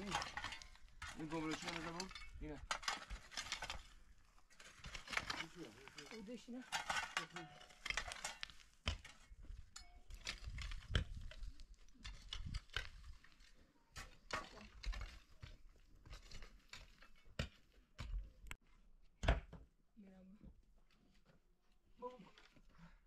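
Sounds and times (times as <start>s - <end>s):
earth and rock crunching: 0.0s - 18.6s.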